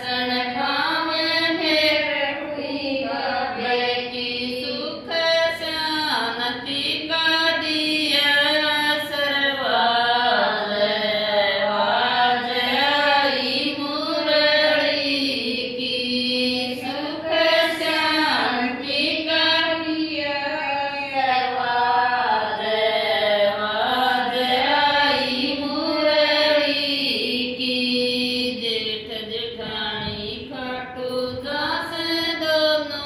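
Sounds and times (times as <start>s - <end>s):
women singing devotional song: 0.0s - 33.0s.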